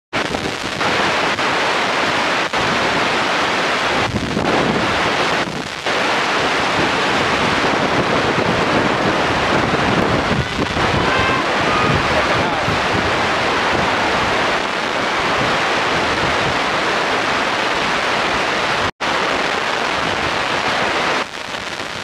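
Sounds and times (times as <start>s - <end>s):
wind buffeting microphone: 0.2s - 21.1s.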